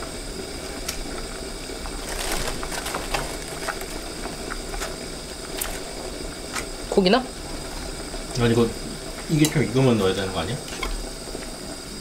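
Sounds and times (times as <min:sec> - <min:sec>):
broth boiling in a pot: 0:00.0 - 0:12.0.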